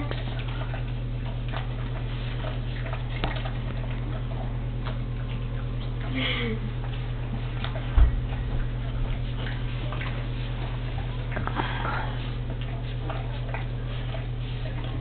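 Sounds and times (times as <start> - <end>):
dog licking and smacking: 0.0 - 6.1, 6.7 - 11.5, 12.1 - 15.0
steady hum: 0.0 - 15.0.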